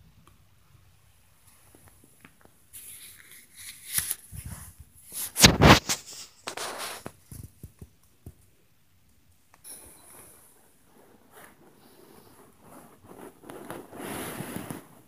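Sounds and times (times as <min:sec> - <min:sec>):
rustling: 0:01.4 - 0:08.5, 0:09.6 - 0:15.0.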